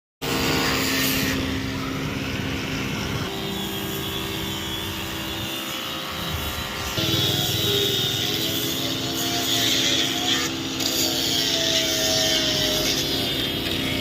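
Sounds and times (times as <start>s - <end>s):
mechanical motor hum: 0.2s - 14.0s.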